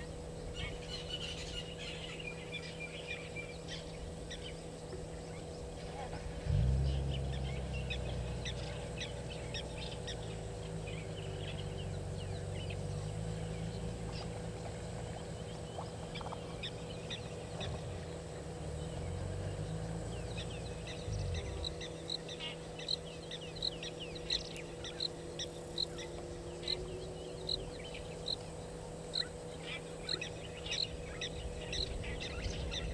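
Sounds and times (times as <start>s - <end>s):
low droning hum: 0.0s - 32.9s
small birds chirping: 0.0s - 32.9s.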